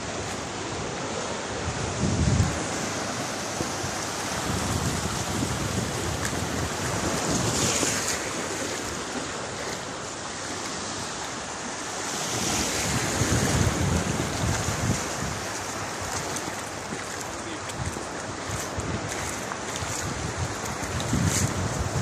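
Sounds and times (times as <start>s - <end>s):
wind gusting on microphone: 0.0s - 9.1s, 12.2s - 22.0s
small waves washing over sand: 0.0s - 22.0s.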